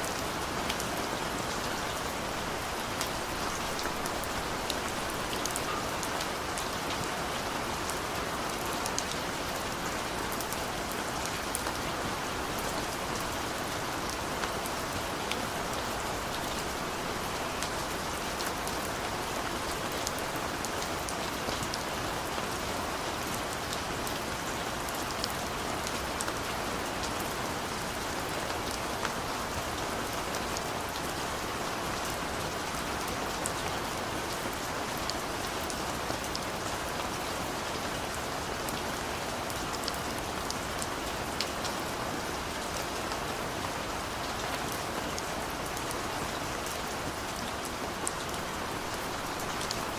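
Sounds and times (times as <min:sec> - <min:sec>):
patter of raindrops: 0:00.0 - 0:49.9
steady rain falling: 0:00.0 - 0:49.9.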